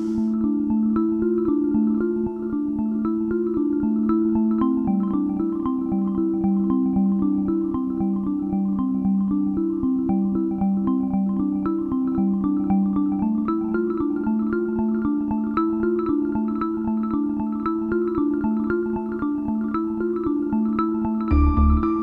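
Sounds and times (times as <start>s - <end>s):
instrumental music: 0.0s - 22.0s.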